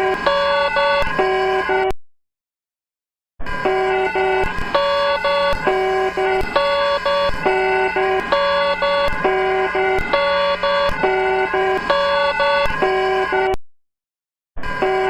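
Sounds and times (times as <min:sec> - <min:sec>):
buzzy stepped alarm beeps: 0:00.0 - 0:01.9, 0:03.5 - 0:13.6, 0:14.6 - 0:15.0.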